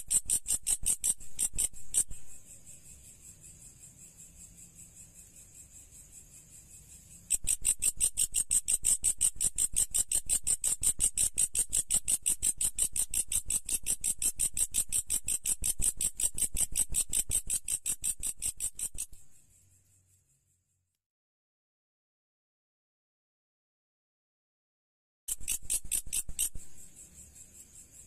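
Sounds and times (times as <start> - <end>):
insect chirping: 0.0 - 21.0, 25.3 - 28.0.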